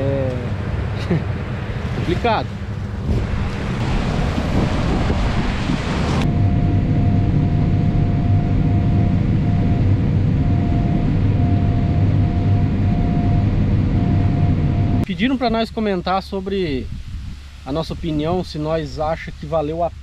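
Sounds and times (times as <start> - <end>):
combine harvester engine running: 0.0 - 16.2
wind buffeting microphone: 0.0 - 20.0.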